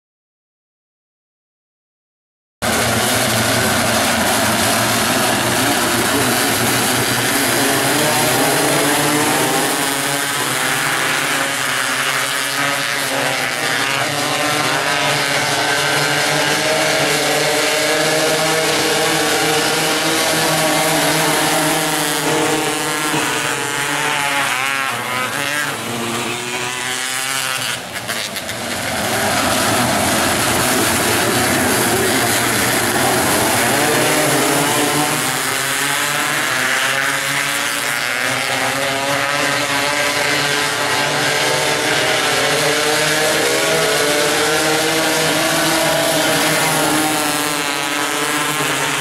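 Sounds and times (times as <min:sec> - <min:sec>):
racing car engines revving: 0:02.6 - 0:49.0.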